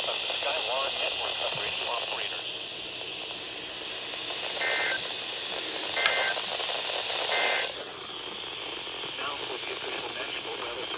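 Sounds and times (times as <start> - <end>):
radio static: 0.0 - 10.9.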